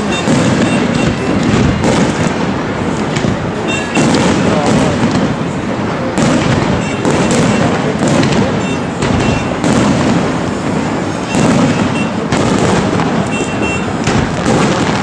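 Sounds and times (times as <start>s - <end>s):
fireworks bursting with sharp bangs: 0.0s - 15.0s
steady wash of noise: 0.0s - 15.0s.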